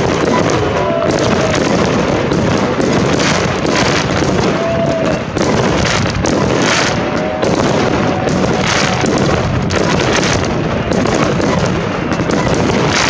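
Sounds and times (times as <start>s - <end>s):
firework whistles: 0.0s - 13.0s
fireworks bursting bangs: 0.0s - 13.0s.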